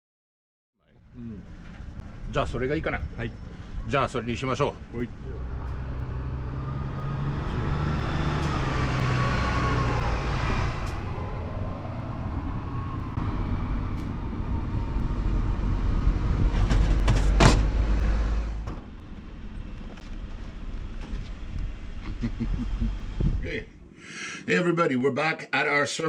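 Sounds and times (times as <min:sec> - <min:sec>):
vehicle engine rumble: 0:00.9 - 0:24.0.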